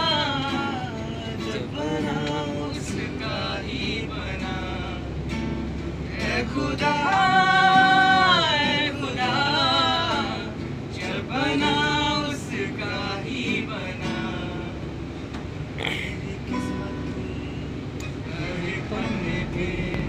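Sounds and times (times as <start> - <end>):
man singing unaccompanied: 0.0 - 5.3, 6.0 - 15.2, 15.8 - 20.0
train carriage rumble: 0.0 - 20.0.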